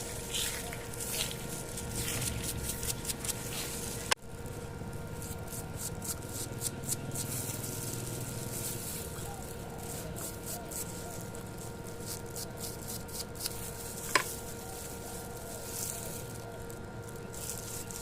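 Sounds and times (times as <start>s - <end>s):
rubbing and scraping on bicycle pedal: 0.0s - 4.2s, 5.2s - 18.0s
faint steady hum: 0.0s - 18.0s.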